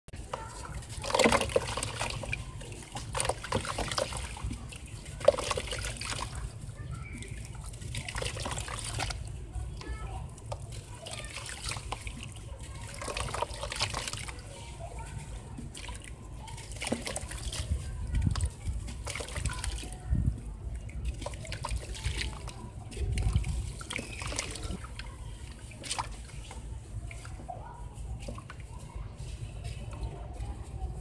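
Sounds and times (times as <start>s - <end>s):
water trickling and splashing: 0.1s - 31.0s.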